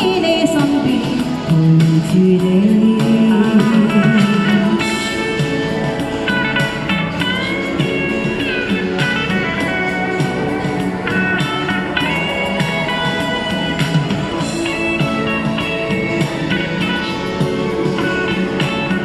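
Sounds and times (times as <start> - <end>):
backing music accompaniment: 0.0 - 19.0
sliding guitar lead melody: 0.0 - 19.0.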